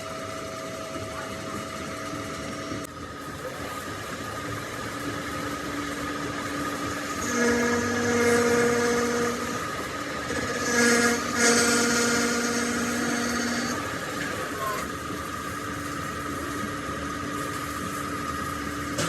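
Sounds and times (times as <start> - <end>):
metal-cutting machine humming: 0.0 - 19.0
ringing whine of cutting: 0.0 - 19.0.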